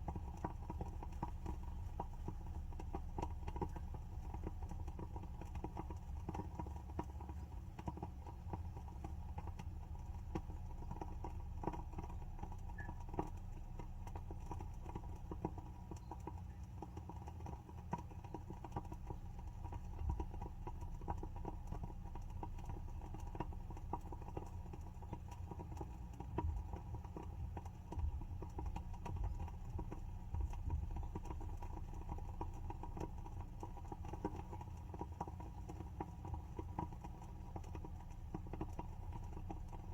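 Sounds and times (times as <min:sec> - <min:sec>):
wooden wick crackling: 0:00.0 - 0:39.9.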